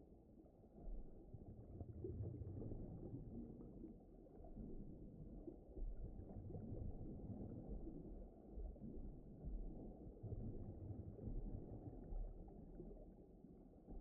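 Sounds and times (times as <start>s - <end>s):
muffled deep ocean rumble: 0.0s - 14.0s.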